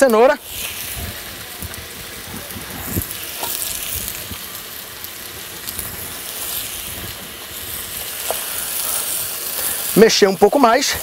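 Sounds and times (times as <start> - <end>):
meat sizzling in butter: 0.0 - 11.0.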